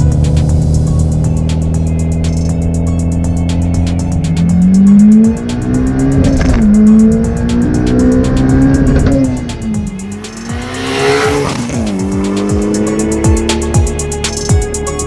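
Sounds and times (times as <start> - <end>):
electronic music with steady beat: 0.0 - 15.0
turbocharged car engine: 0.0 - 15.0.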